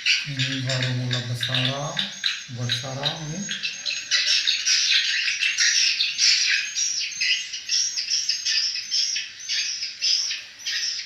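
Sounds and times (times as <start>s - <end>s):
swiftlets chirping and twittering: 0.0s - 11.0s.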